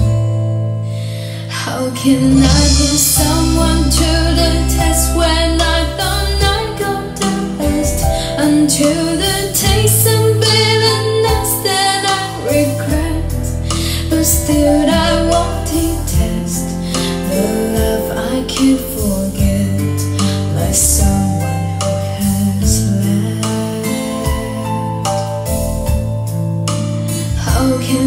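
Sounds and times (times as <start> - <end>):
song with bass line: 0.0 - 28.0
woman singing: 1.4 - 25.6, 27.1 - 28.0.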